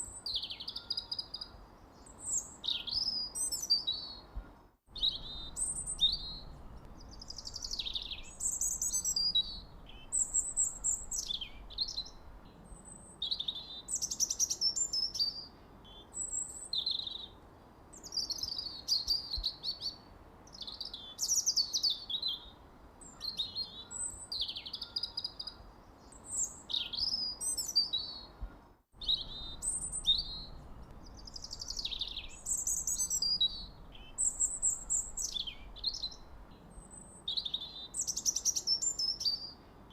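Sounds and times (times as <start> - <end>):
songbirds chirping and singing: 0.0 - 17.4, 18.0 - 39.9.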